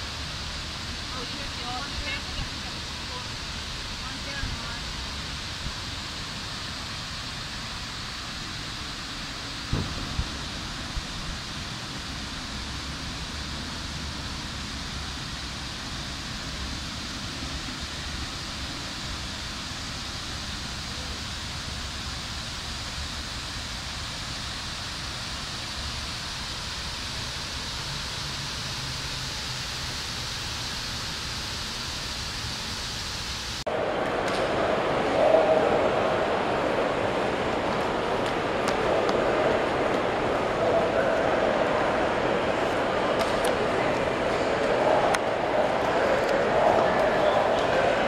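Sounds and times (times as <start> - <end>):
water cascading down walls: 0.0 - 48.0.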